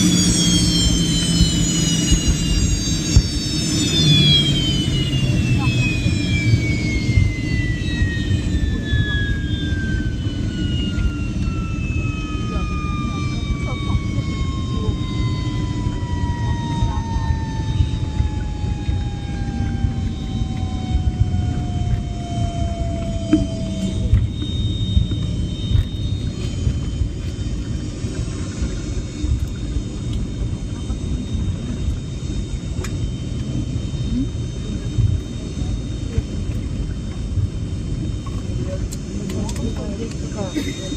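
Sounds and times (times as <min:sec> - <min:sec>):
airliner cabin rumble: 0:00.0 - 0:40.9
faint high whine: 0:00.0 - 0:40.9
jet engines spooling down: 0:00.0 - 0:40.9.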